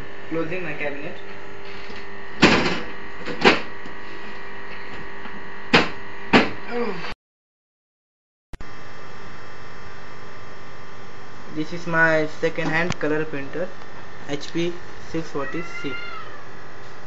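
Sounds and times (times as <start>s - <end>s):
steady hum: 0.0s - 7.2s, 8.6s - 17.0s.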